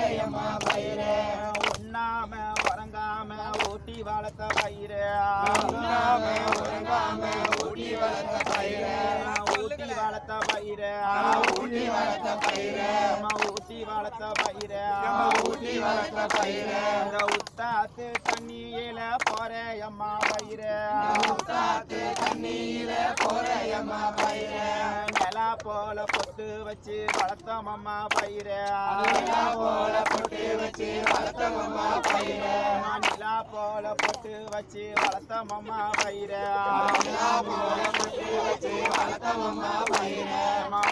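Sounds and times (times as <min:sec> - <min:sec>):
group singing devotional song: 0:00.0 - 0:40.9
hand claps: 0:00.2 - 0:40.9.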